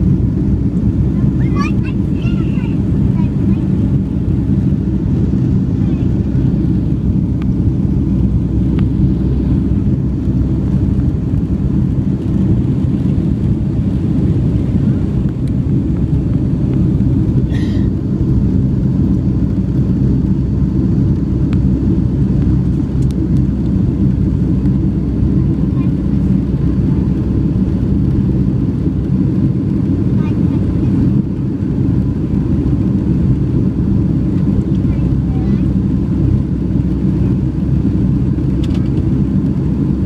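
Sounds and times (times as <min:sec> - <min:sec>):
jet engines rumbling in cabin: 0:00.0 - 0:40.0.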